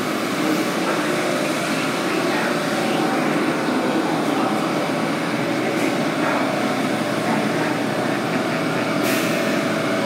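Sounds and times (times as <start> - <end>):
subway train air conditioning hum: 0.0 - 10.0.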